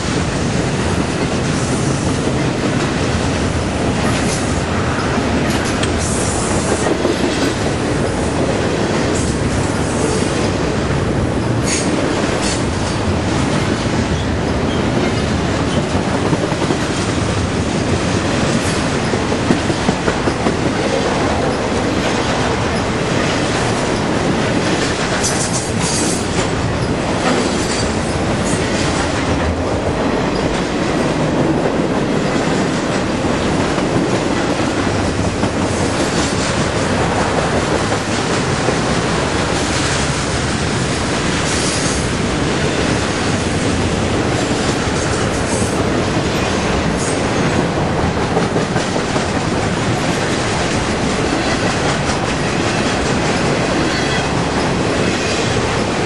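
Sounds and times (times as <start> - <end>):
freight train passing: 0.0 - 56.0
steel wheels clattering on rails: 0.0 - 56.0.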